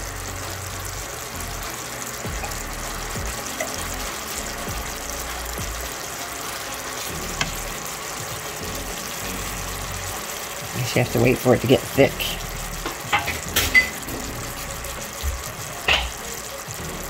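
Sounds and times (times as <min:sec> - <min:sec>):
bananas sizzling in butter: 0:00.0 - 0:17.0.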